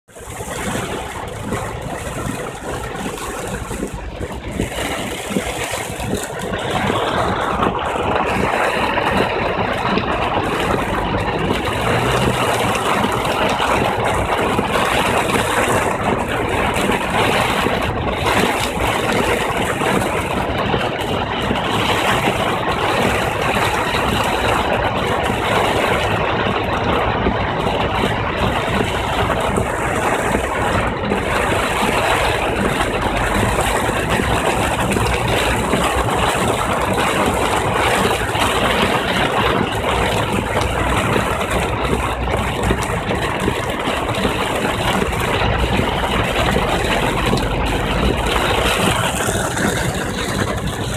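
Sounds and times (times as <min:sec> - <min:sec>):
car engine running: 0:00.0 - 0:50.9
heavy rain on car roof: 0:00.0 - 0:50.9
tyres on flooded road: 0:00.0 - 0:50.9.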